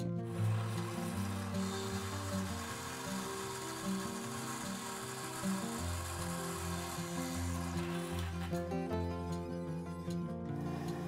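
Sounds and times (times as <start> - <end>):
background music held notes: 0.0 - 11.0.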